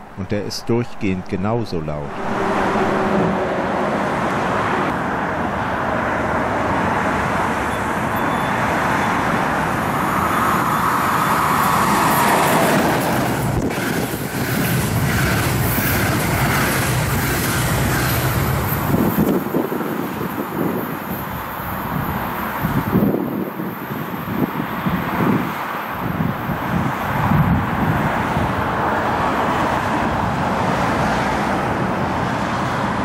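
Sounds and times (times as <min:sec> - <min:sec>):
highway traffic: 0:00.0 - 0:33.0
train approaching: 0:00.0 - 0:33.0.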